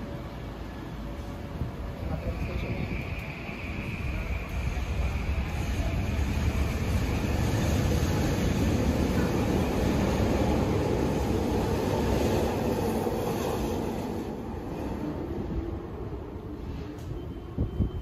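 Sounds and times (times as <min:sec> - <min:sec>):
train wheel and rail rumble: 0:00.0 - 0:18.0.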